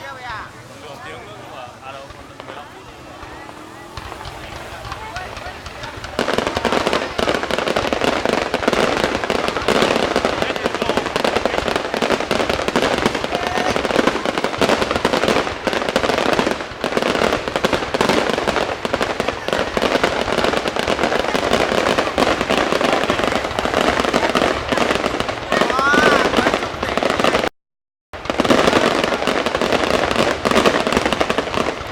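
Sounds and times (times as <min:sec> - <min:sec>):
fireworks bangs and crackles: 0:00.0 - 0:27.5, 0:28.2 - 0:31.9.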